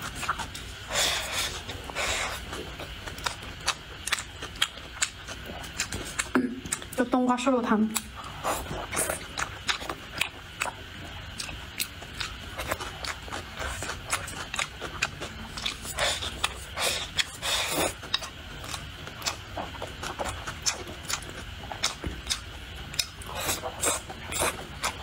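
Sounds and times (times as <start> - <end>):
person chewing with wet mouth sounds: 0.0 - 7.1, 7.9 - 25.0.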